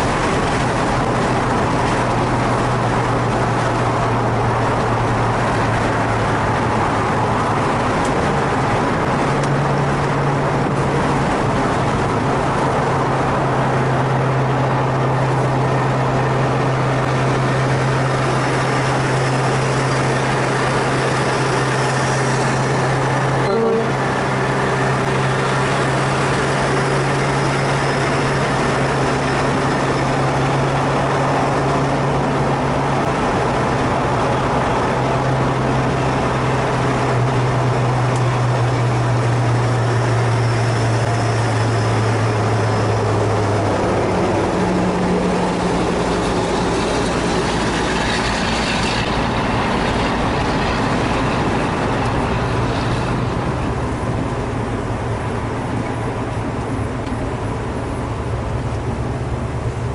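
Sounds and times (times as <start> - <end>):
car engine at highway speed: 0.0 - 59.9
road and wind noise: 0.0 - 59.9.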